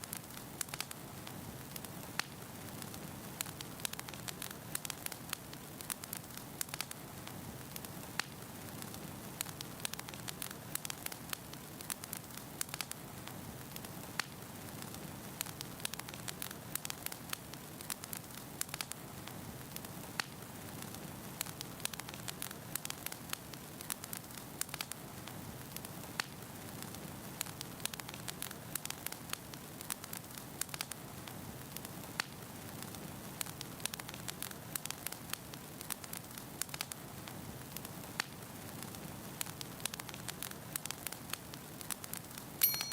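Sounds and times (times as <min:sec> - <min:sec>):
fire burning: 0:00.0 - 0:42.6
wood crackling and popping: 0:00.0 - 0:42.9.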